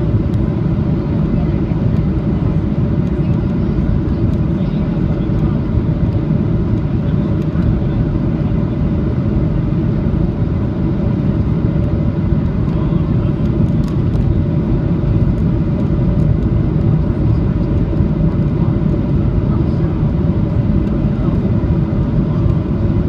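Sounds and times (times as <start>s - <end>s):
airplane cabin roar: 0.0s - 23.0s
steady hum: 0.0s - 23.0s.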